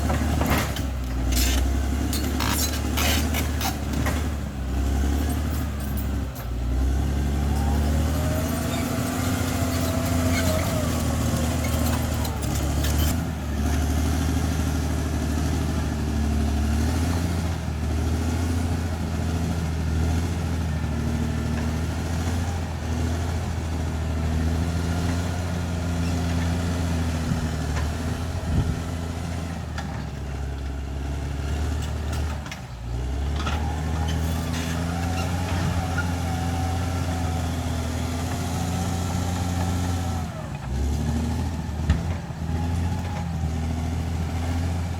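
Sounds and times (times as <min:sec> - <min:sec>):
bulldozer engine running: 0:00.0 - 0:44.9.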